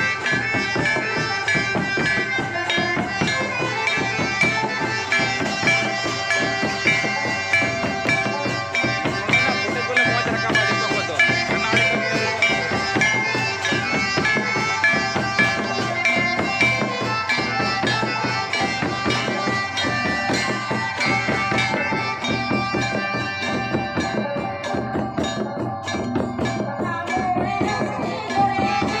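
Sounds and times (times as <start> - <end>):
drums keeping steady beat: 0.0 - 29.0
sustained melody: 0.0 - 29.0.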